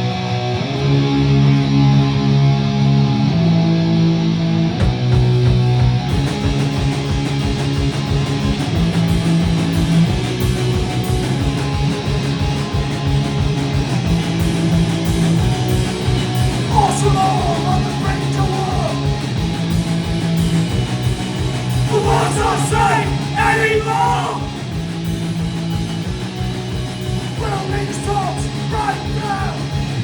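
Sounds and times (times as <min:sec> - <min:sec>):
distorted electric guitar chords: 0:00.0 - 0:30.0
fast drum beat: 0:04.8 - 0:30.0.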